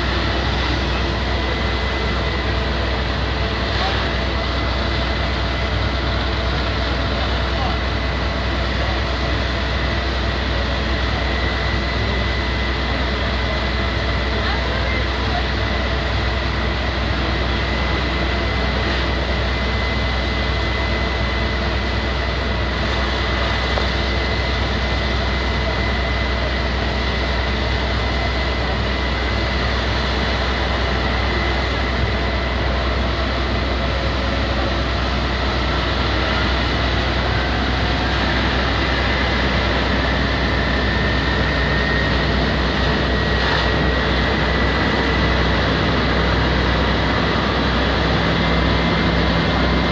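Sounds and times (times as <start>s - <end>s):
fire engine pump humming: 0.0s - 49.9s
steady high whine: 0.0s - 49.9s.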